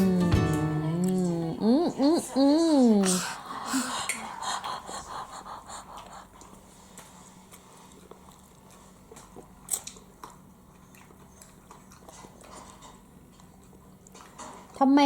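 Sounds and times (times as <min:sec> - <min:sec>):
child chewing food: 0:00.0 - 0:14.8.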